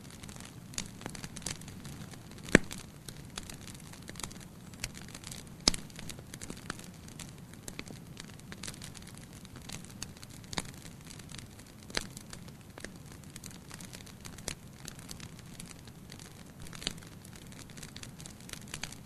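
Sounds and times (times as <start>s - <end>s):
fireplace fire burning: 0.0s - 19.0s.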